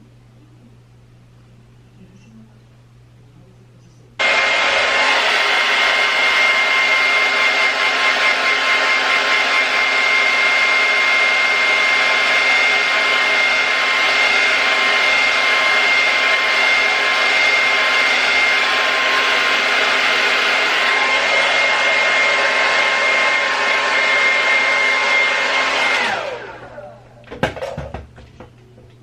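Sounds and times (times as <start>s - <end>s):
hair dryer running: 4.2s - 28.5s.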